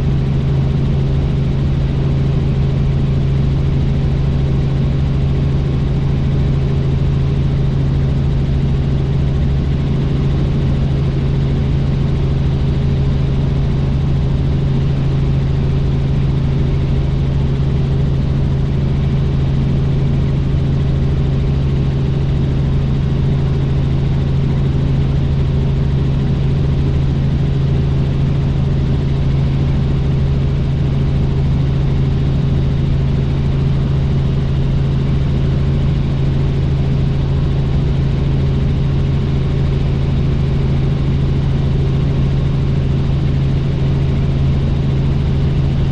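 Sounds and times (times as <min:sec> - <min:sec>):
helicopter rotor drone: 0:00.0 - 0:45.9.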